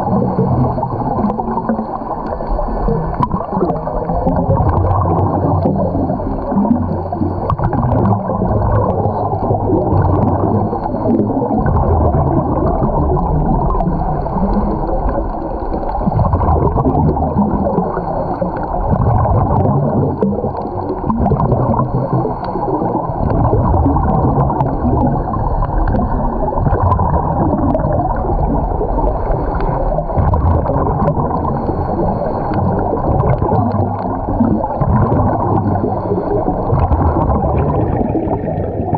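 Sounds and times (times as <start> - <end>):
underwater bubbles gurgling: 0.0 - 38.9.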